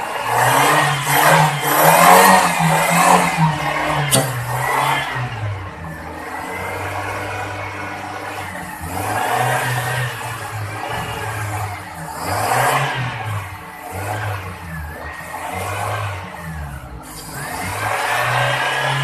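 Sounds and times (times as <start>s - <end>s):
car engine revving unevenly: 0.0s - 19.0s.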